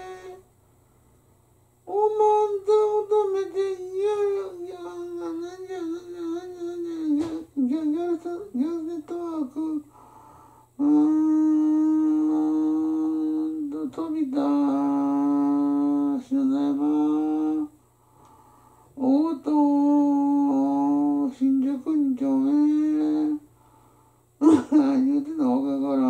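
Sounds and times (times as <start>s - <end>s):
man humming: 0.0s - 0.5s, 1.9s - 10.1s, 10.8s - 17.8s, 19.0s - 23.5s, 24.4s - 26.0s.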